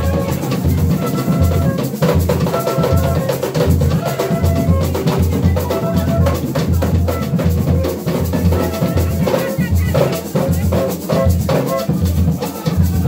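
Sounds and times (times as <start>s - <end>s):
hand drums played in fast rhythm: 0.0s - 13.0s.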